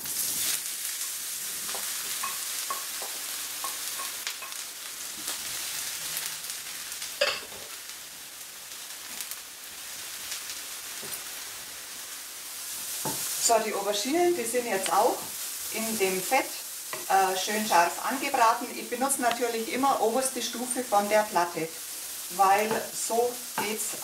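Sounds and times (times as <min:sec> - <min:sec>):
aubergine sizzling in frying pan: 0:00.0 - 0:24.0.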